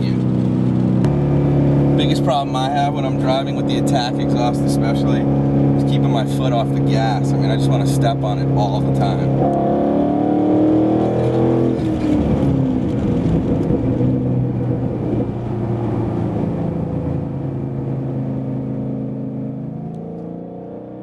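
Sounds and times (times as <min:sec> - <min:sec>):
car engine low drone: 0:00.0 - 0:21.0.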